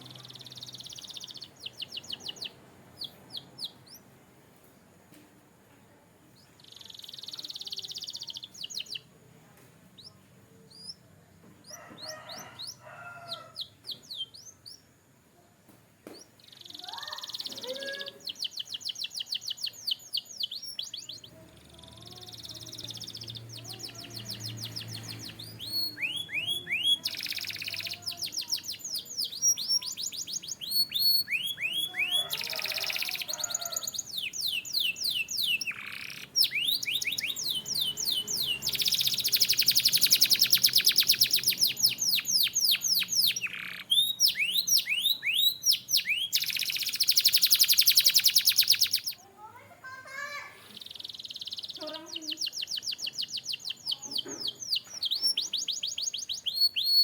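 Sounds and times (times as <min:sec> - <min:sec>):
canary singing: 0:00.0 - 0:04.2, 0:06.3 - 0:09.2, 0:09.9 - 0:15.1, 0:16.1 - 0:57.0.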